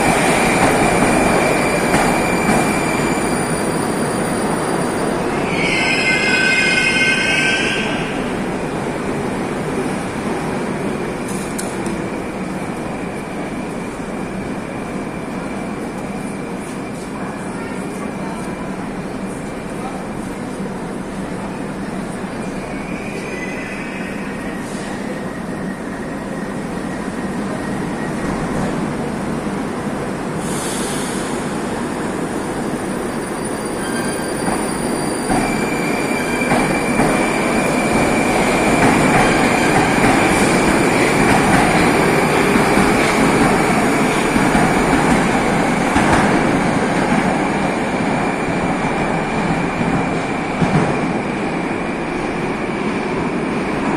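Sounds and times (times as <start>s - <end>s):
metro train pulling out: 0.0s - 53.9s.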